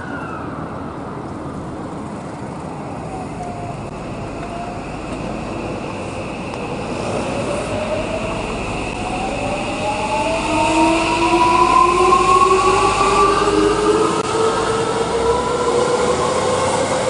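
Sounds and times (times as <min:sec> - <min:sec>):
electric train motor whine: 0:02.9 - 0:17.0.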